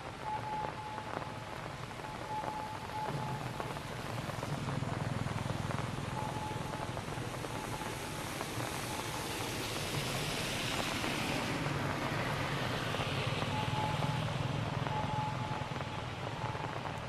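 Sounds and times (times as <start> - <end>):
light rain hissing: 0.0 - 17.0.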